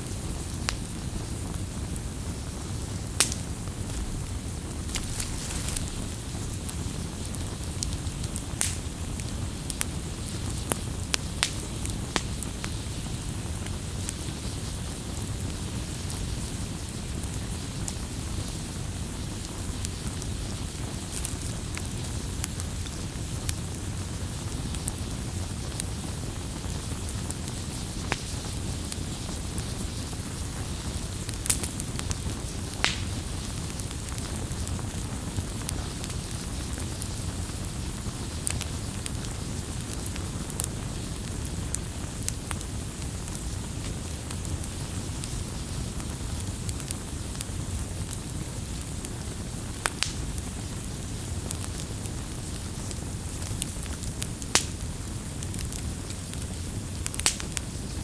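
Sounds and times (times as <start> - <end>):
burning wood crackling and popping: 0.0 - 58.0
campfire flames rumbling: 0.0 - 58.0.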